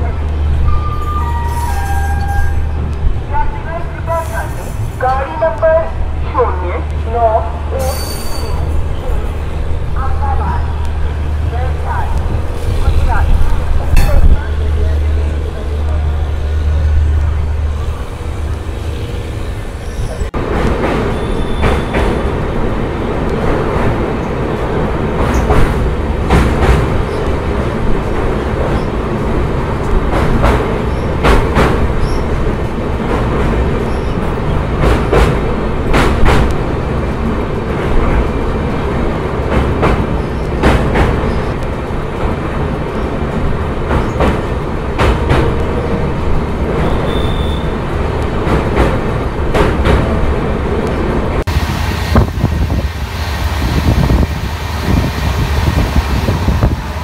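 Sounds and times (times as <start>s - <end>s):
train coach rumbling: 0.0s - 57.0s.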